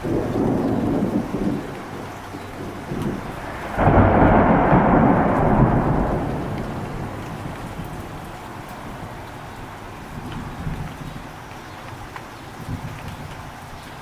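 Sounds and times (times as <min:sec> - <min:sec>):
steady rain: 0:00.0 - 0:14.0
thunder clap and rumble: 0:00.0 - 0:14.0.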